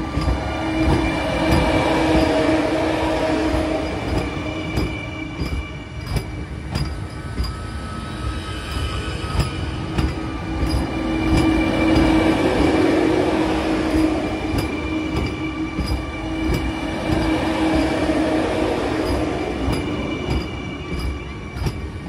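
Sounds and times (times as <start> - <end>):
train hum: 0.0 - 22.0
train wheels clicking on rail joints: 0.0 - 22.0.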